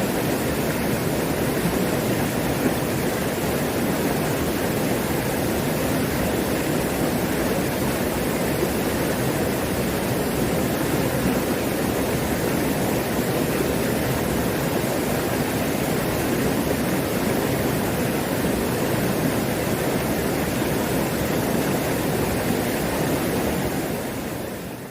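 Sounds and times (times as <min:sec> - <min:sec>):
stream rushing over rocks: 0:00.0 - 0:24.9.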